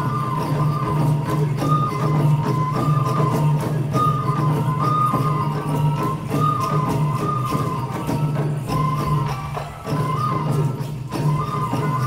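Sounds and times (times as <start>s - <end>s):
high flute melody: 0.0s - 12.0s
jingling percussion: 0.0s - 12.0s.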